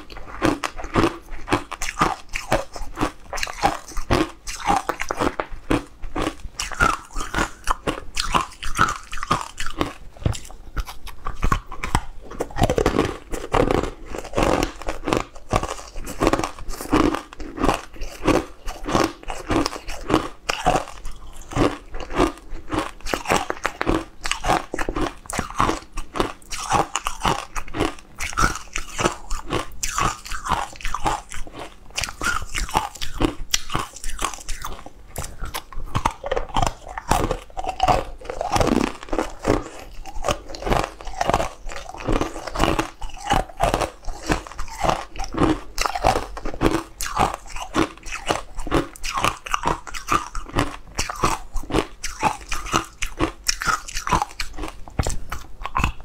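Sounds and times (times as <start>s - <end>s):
person biting and chewing cake: 0.0s - 56.0s.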